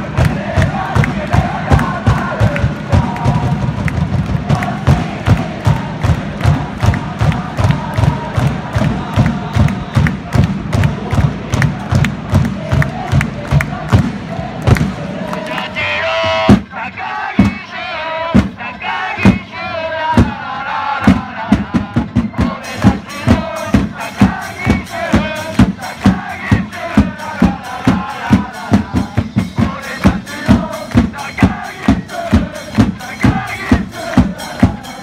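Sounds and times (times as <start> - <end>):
drum beat: 0.0 - 17.7, 18.3 - 19.5, 21.0 - 35.0
crowd chanting in unison: 0.0 - 35.0.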